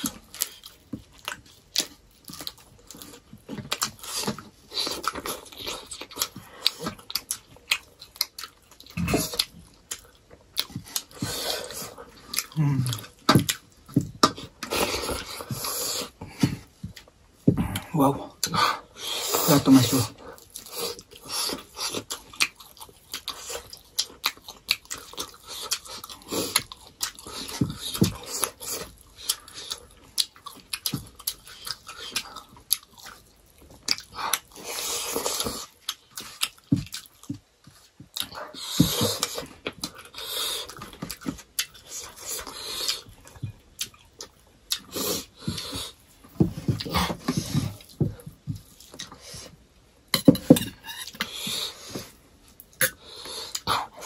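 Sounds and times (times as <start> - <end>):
wet chewing and lip smacking: 0.0 - 18.6, 20.2 - 49.5.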